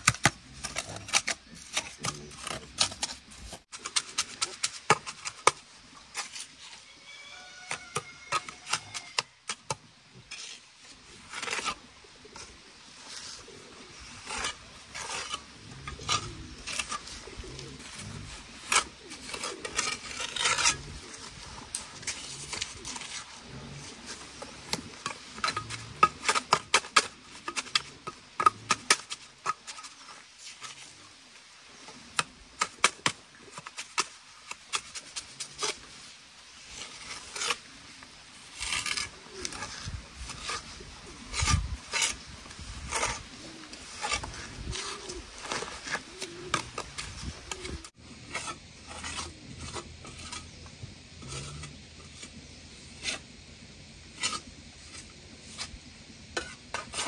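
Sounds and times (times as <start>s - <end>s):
trowel scraping mortar: 0.0s - 53.4s, 54.0s - 57.0s.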